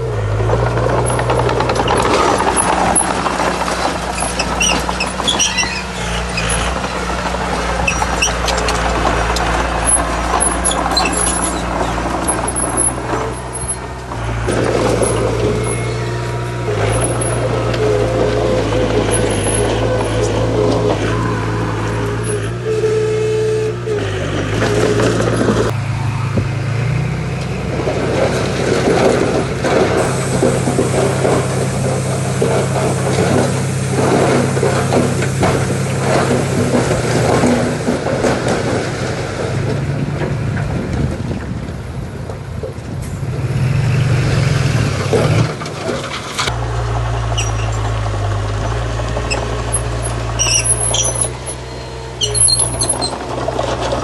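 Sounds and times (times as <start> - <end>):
heavy diesel machinery under load: 0.0 - 54.0
rattling clatter of stone or steel: 0.1 - 22.6, 27.8 - 41.8, 45.0 - 54.0.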